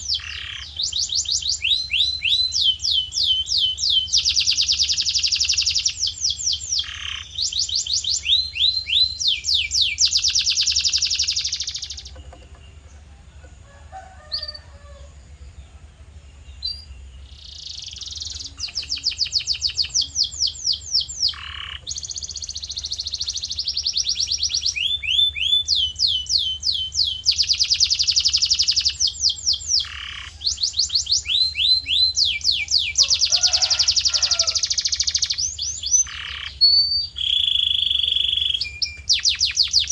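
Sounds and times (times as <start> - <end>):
canary singing in rapid trills: 0.0 - 13.6, 14.2 - 39.9.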